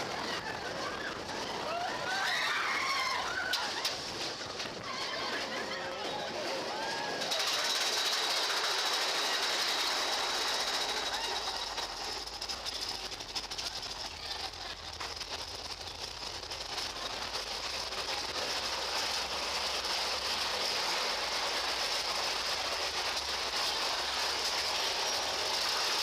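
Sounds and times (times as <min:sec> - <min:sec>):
roller coaster rattling on track: 0:00.0 - 0:26.0.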